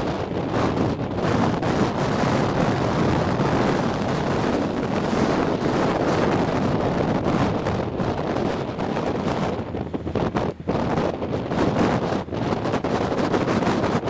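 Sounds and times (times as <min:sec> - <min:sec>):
blizzard wind buffeting microphone: 0:00.0 - 0:14.0.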